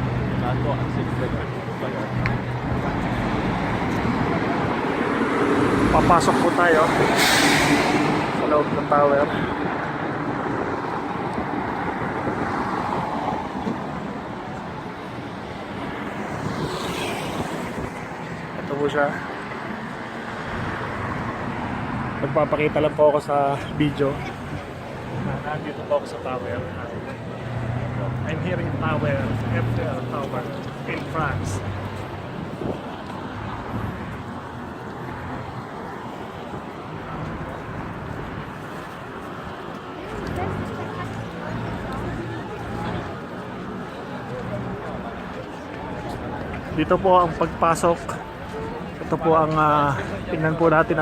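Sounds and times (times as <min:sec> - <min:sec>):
city noise: 0:00.0 - 0:51.0
faint crowd voices: 0:00.0 - 0:51.0
road traffic hum: 0:00.0 - 0:51.0
street bustle: 0:00.0 - 0:51.0.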